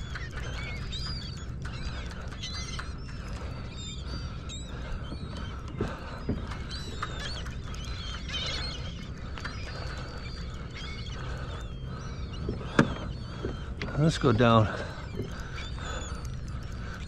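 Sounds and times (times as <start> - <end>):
birds chirping: 0.0 - 17.0
low steady rumble: 0.0 - 17.0.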